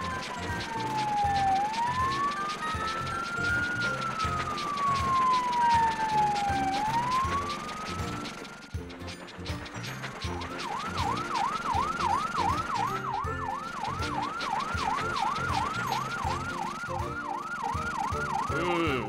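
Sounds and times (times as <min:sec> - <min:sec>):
fire truck siren yelping: 0:00.0 - 0:08.8, 0:09.5 - 0:19.0.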